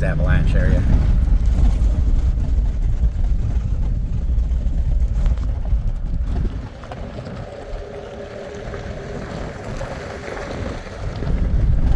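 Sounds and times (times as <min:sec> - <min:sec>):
van engine and road rumble: 0:00.0 - 0:11.9.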